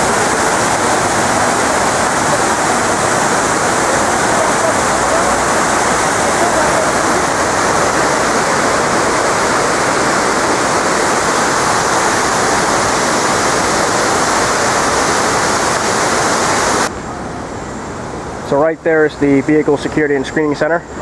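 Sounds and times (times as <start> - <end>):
city background noise: 0.0 - 14.4, 16.8 - 21.0
waterfall rushing: 0.0 - 18.6.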